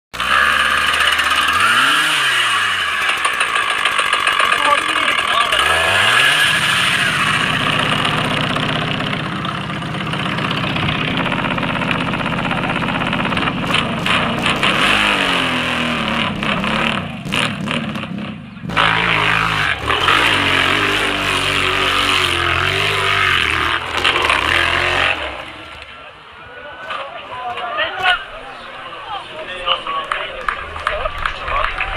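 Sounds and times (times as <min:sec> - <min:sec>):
motorcycle engine revving: 0:00.1 - 0:26.1.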